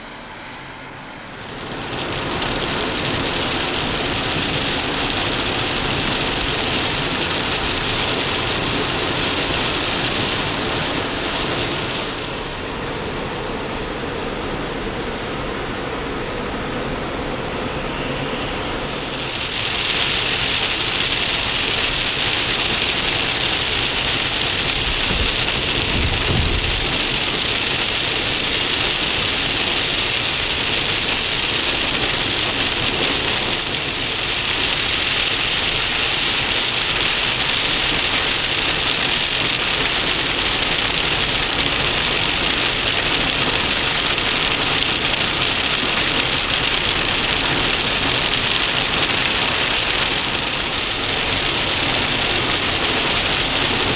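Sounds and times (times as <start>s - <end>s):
road noise: 0.0s - 53.9s
heavy rain on a car: 1.2s - 14.7s, 18.8s - 53.9s.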